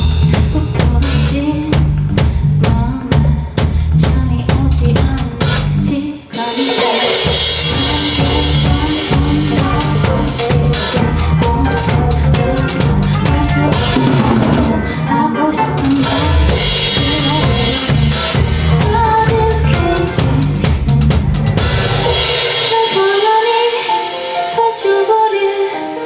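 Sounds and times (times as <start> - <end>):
live band playing: 0.0 - 2.4, 4.8 - 26.0
drum kit with snare and rimshots: 0.0 - 25.6.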